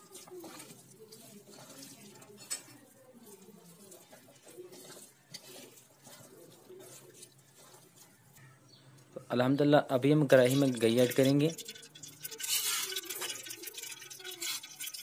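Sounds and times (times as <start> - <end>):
wet batter squelching: 0.0 - 9.2, 9.9 - 15.0.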